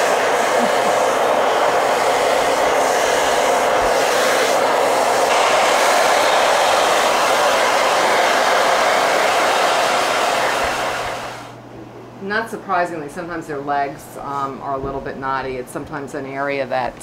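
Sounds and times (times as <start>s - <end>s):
blow dryer running: 0.0s - 16.0s.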